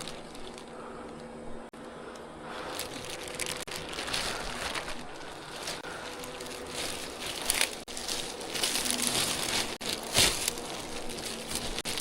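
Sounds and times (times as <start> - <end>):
faint steady hum: 0.0 - 12.0
rustling and crinkling: 0.0 - 12.0.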